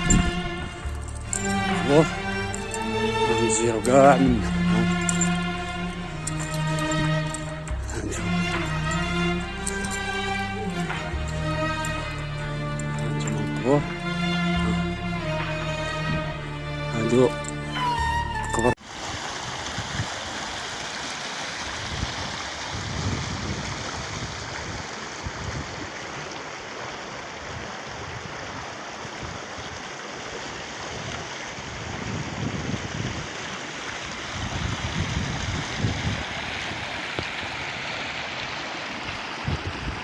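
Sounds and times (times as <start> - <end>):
rainwater rushing: 0.0 - 40.0.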